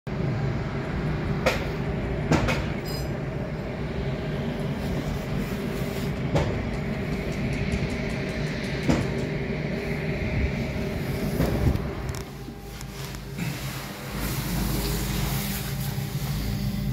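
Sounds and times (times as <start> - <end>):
machinery drone: 0.1 - 16.9.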